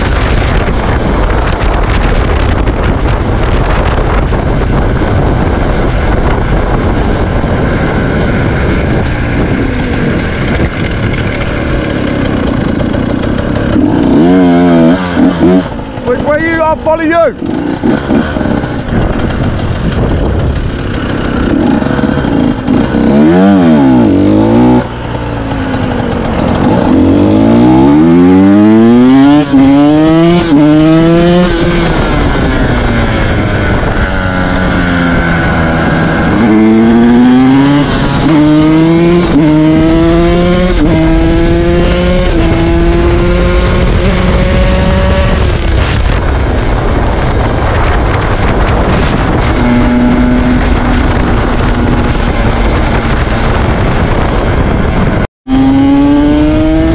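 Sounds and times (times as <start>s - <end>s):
motorcycle engine accelerating: 0.0s - 56.9s
wind on microphone: 0.0s - 56.9s.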